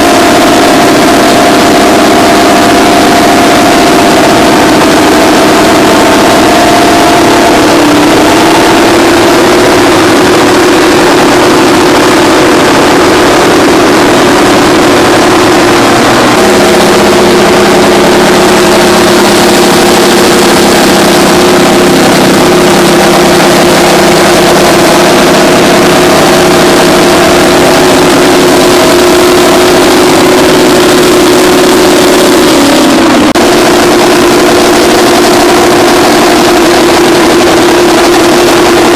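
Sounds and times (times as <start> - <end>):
bulldozer diesel engines running hard: 0.0 - 38.9
lower engine note: 0.0 - 38.9.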